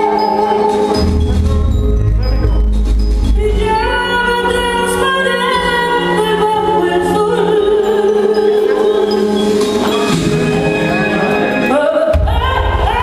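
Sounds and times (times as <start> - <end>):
backing track: 0.0 - 13.0.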